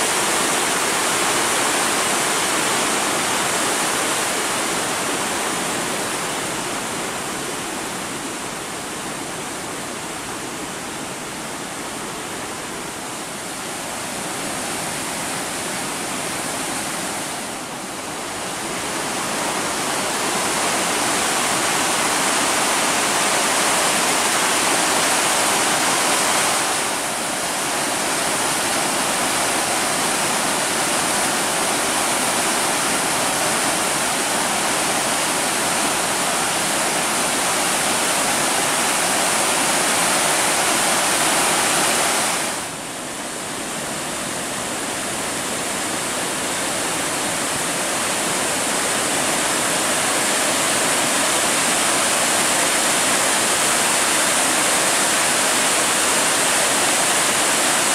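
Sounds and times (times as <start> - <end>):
rushing rapids: 0.0 - 57.9.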